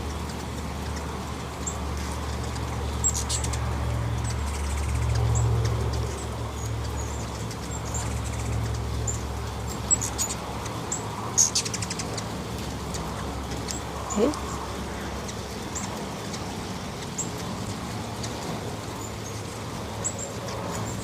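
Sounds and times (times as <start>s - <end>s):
hummingbird wings humming: 0.0s - 21.0s.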